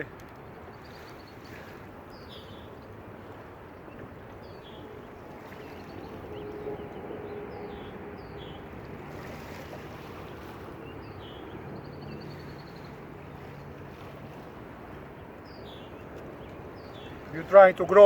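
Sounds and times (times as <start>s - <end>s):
lake waves: 0.0s - 18.0s
wind: 0.0s - 18.0s.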